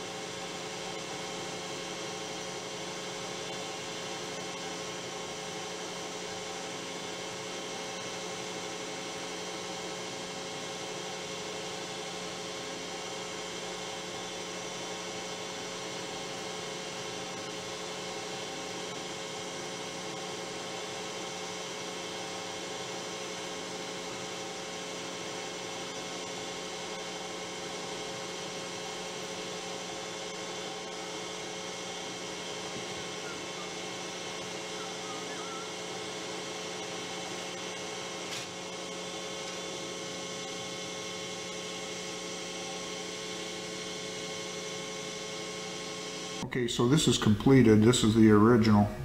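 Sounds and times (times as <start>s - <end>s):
metal lathe running: 0.0s - 46.4s.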